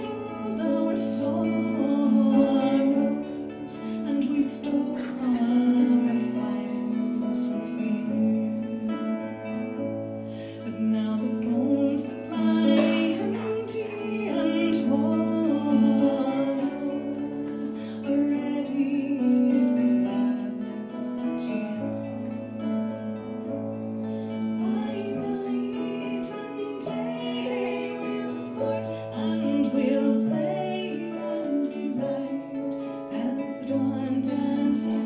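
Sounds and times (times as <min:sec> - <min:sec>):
acoustic guitar: 0:00.0 - 0:35.0
woman singing: 0:00.0 - 0:35.0.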